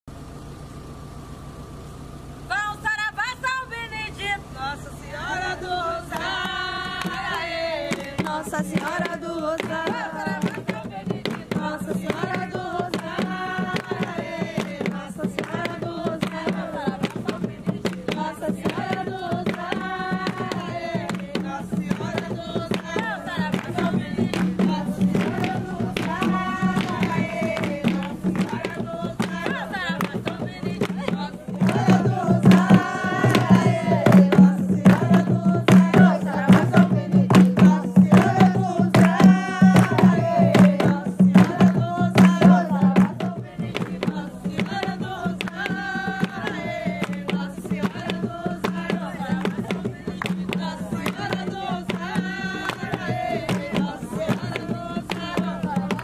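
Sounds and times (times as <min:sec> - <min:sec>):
voices singing together: 0:03.4 - 0:56.0
hand drums beating fast rhythm: 0:06.1 - 0:56.0.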